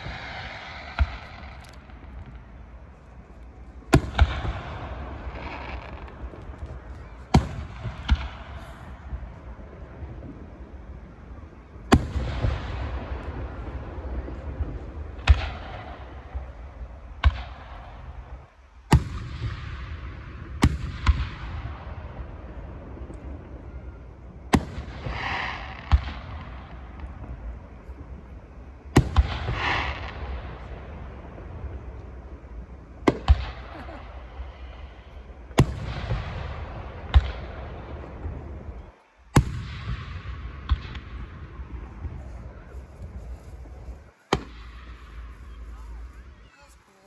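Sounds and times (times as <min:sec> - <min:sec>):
fireworks bangs: 0:00.0 - 0:47.0
fireworks crackle: 0:00.0 - 0:47.0.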